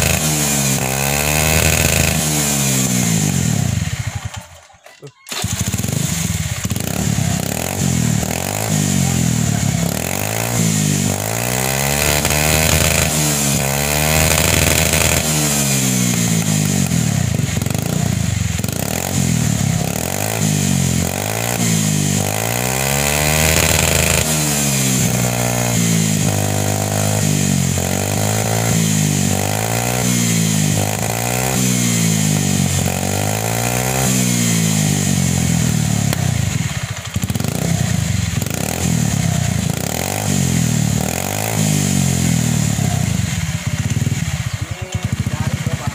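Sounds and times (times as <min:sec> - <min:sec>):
scooter engine revving: 0:00.0 - 0:45.9.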